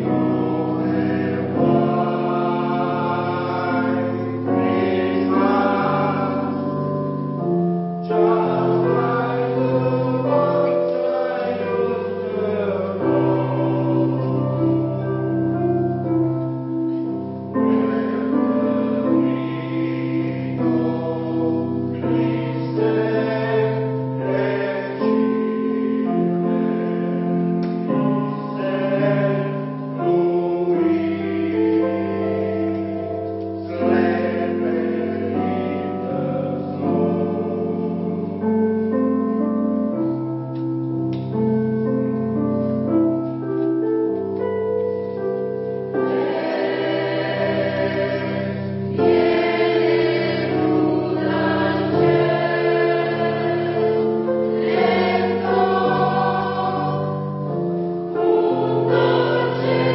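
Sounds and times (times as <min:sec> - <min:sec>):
choir singing in parts: 0:00.0 - 0:40.2, 0:41.1 - 0:59.9.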